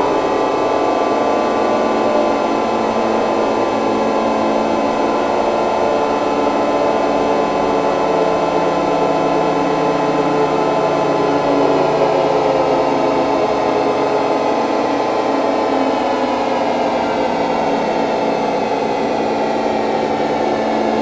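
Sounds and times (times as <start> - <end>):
drone of held tones: 0.0 - 21.0.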